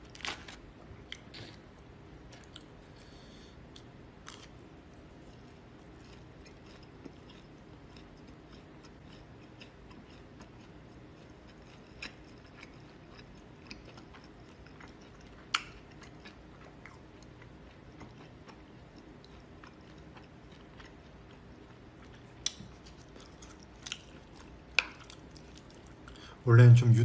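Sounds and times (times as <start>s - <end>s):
person chewing noodles: 0.1s - 26.3s.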